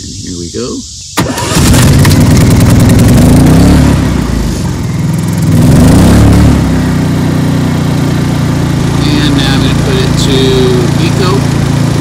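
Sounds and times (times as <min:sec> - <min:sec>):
generator engine starting and running: 0:01.2 - 0:12.0.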